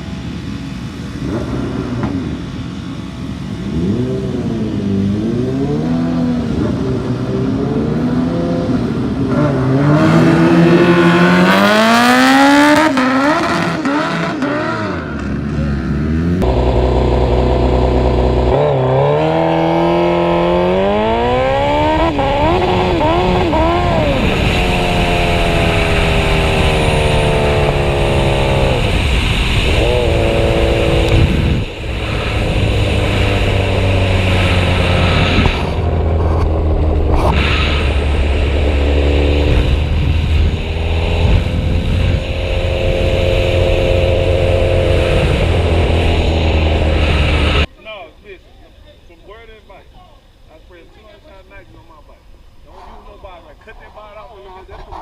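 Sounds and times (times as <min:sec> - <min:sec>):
racing motorcycle engines accelerating: 0:00.0 - 0:47.7.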